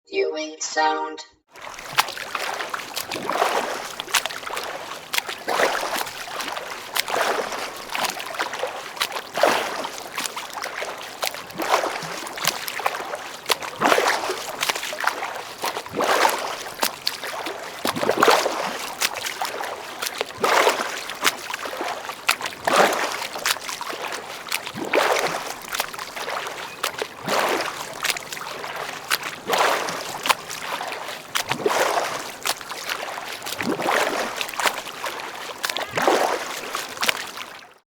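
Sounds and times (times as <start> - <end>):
swimming strokes splashing water: 1.5 - 37.8.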